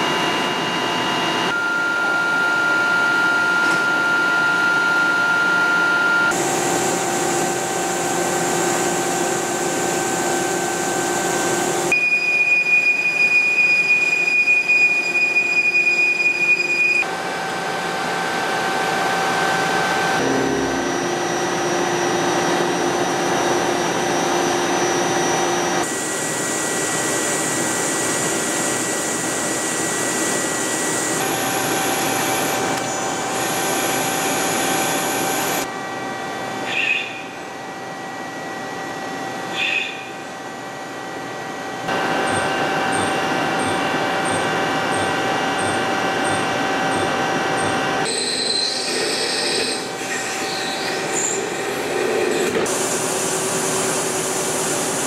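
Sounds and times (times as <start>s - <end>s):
lathe machine running with whine: 0.0s - 55.0s.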